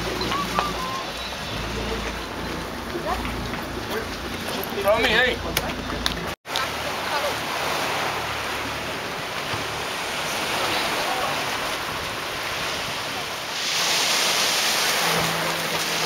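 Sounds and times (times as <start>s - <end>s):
sea noise: 0.0s - 16.0s
waves washing over pebbles: 0.0s - 16.0s
wind: 0.0s - 16.0s.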